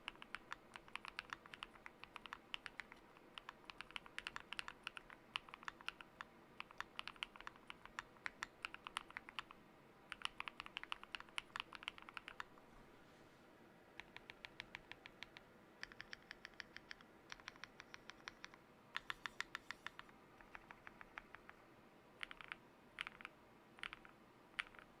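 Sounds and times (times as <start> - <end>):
typing on mechanical keyboard: 0.0 - 12.5, 14.0 - 21.6, 22.2 - 25.0.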